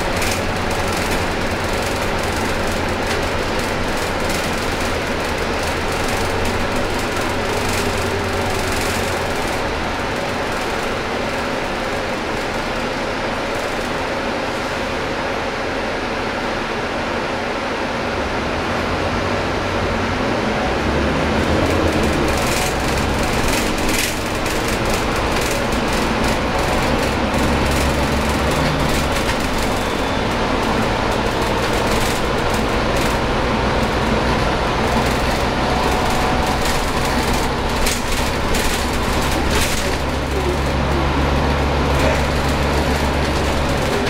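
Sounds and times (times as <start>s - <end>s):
bus body rattling: 0.0s - 15.3s, 20.9s - 44.0s
bus diesel engine drone: 0.0s - 44.0s.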